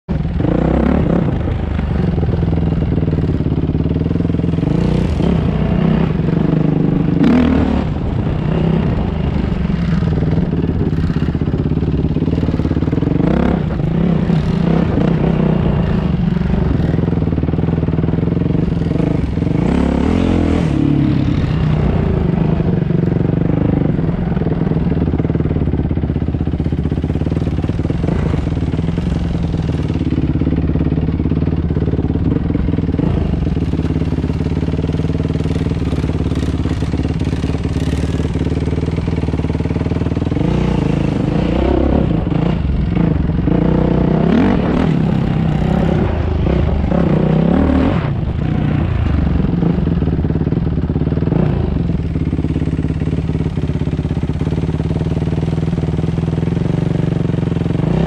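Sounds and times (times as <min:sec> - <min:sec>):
off-road motorcycle engine running: 0:00.0 - 0:58.0.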